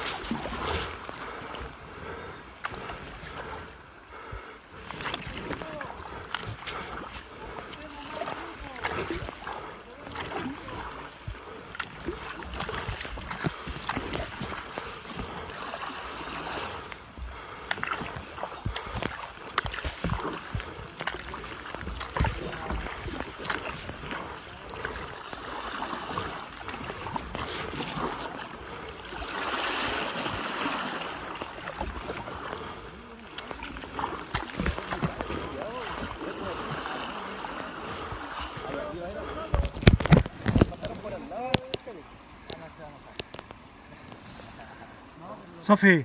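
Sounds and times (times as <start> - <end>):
kayak paddle splashing: 0.0 - 45.9
river water sloshing: 0.0 - 46.0.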